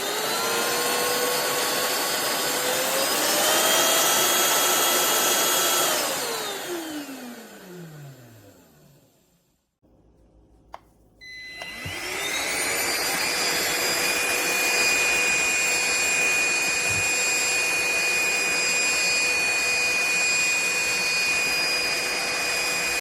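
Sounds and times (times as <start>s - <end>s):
handheld vacuum motor whine: 0.0s - 9.1s, 11.2s - 23.0s.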